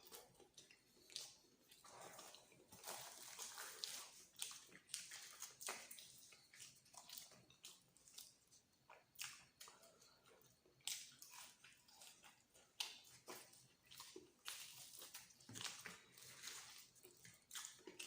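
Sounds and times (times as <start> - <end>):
close-up chewing and biting: 0.0 - 18.0.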